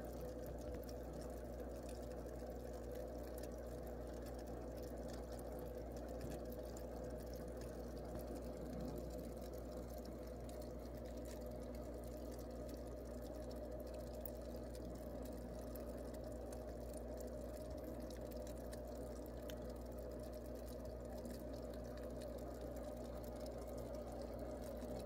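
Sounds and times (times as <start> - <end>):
aquarium filter bubbling: 0.0 - 25.0
low steady hum: 0.0 - 25.0.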